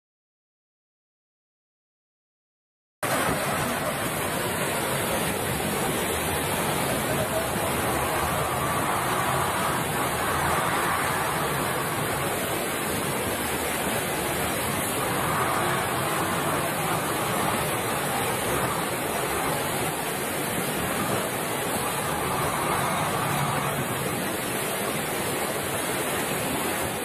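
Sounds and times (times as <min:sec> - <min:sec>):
fast river rushing: 0:03.0 - 0:27.0.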